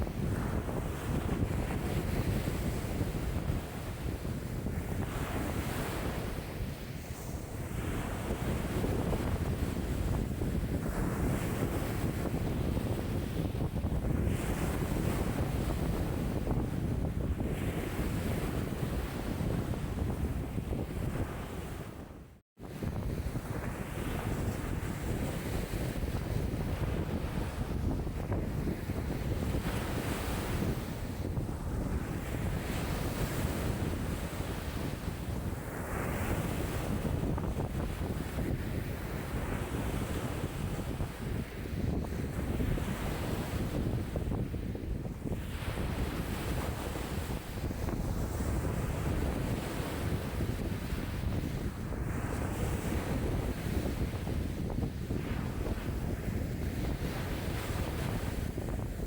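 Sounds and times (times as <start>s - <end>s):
waves breaking and washing: 0.0s - 59.0s
wind buffeting microphone: 0.0s - 59.0s.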